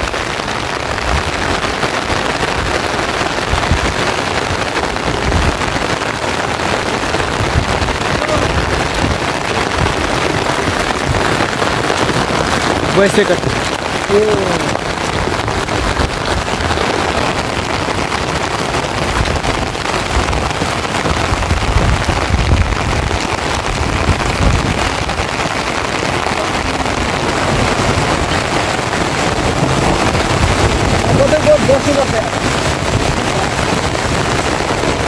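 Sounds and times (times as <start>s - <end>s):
heavy rain: 0.0s - 35.0s
wind rumble on microphone: 0.0s - 35.0s.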